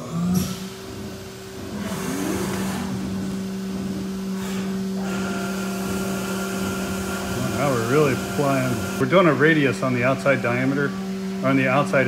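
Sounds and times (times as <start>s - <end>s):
cnc mill spindle whine: 0.0s - 12.0s.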